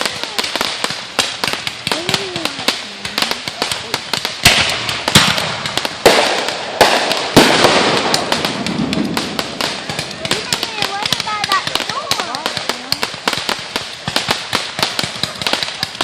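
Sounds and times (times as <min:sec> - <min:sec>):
fireworks bangs with crackling hiss: 0:00.0 - 0:16.0
fireworks crackling and popping: 0:00.0 - 0:16.0.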